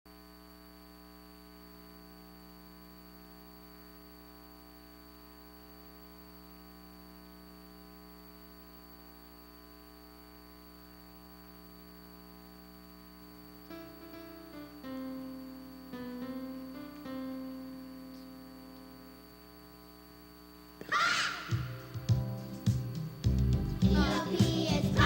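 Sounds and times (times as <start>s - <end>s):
electrical hum: 0.1s - 25.0s
faint hiss: 0.1s - 25.0s.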